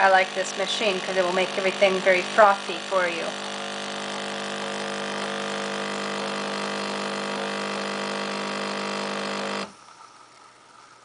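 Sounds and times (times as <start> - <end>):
coffee maker pump buzzing: 0.0 - 11.0.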